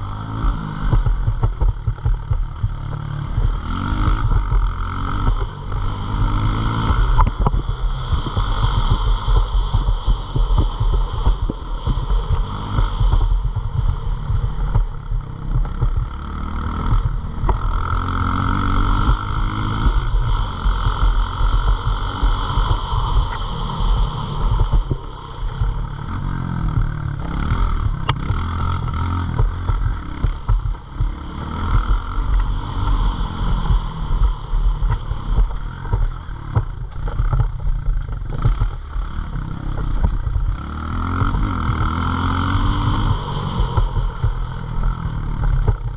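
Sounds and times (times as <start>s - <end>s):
heavy low rumble: 0.0s - 45.9s
pit bike engine revving: 0.0s - 45.9s.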